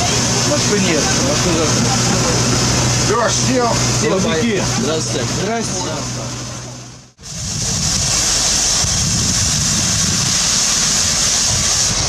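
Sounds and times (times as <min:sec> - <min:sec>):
locomotive wheels rumbling on rails: 0:00.0 - 0:12.0
steam locomotive hiss: 0:00.0 - 0:12.0.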